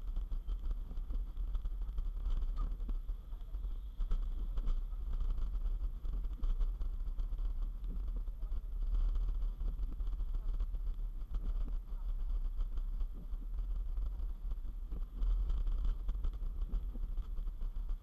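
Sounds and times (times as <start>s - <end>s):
faint hiss: 0.0s - 18.0s
wind noise: 0.0s - 18.0s.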